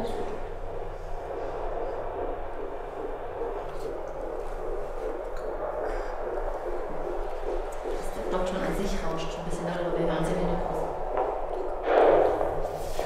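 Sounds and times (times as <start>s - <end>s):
doppler heartbeat: 0.0s - 13.0s
low hum: 0.0s - 13.0s.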